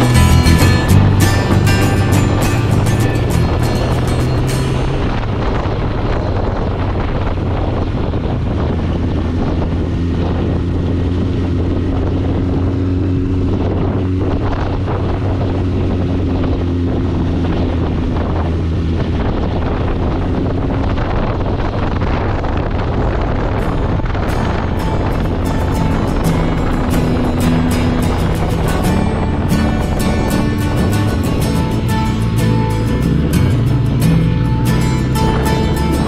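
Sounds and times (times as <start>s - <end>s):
motorcycle engine running: 0.0s - 36.0s
wind rushing over microphone: 0.0s - 36.0s.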